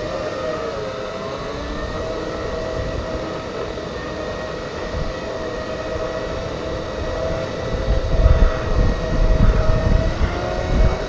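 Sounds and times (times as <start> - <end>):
electric drive whining: 0.0 - 11.0
wind rumbling on microphone: 0.0 - 11.0.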